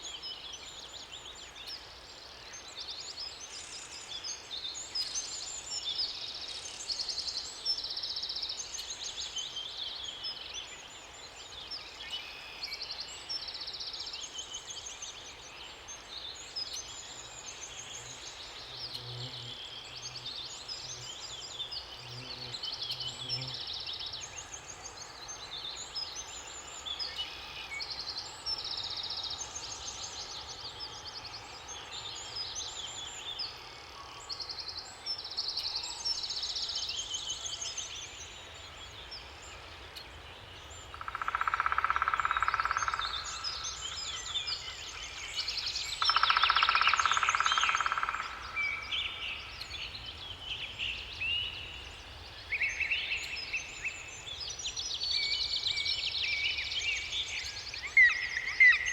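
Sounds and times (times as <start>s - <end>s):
background hiss: 0.0s - 58.9s
songbirds singing and chirping: 0.0s - 58.9s.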